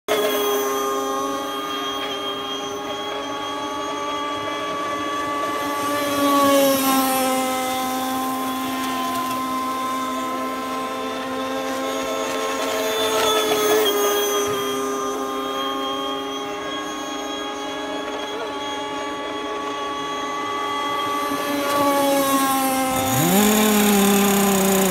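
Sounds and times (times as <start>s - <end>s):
model speedboat motors whining: 4.0s - 24.9s.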